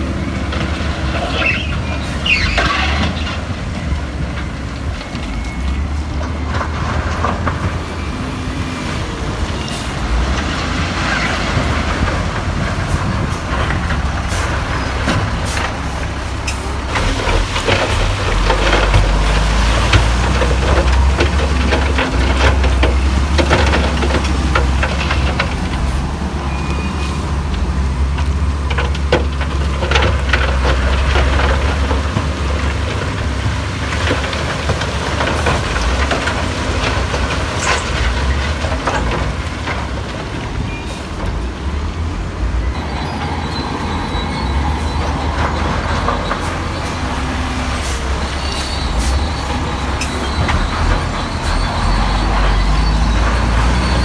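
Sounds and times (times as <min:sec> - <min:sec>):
heavy diesel machinery rumbling: 0:00.0 - 0:54.0
knocks and clatter: 0:00.0 - 0:54.0.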